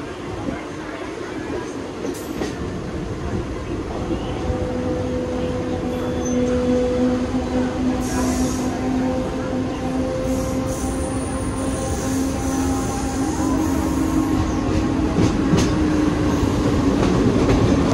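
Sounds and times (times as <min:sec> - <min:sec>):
electric train rumble: 0:00.0 - 0:17.9.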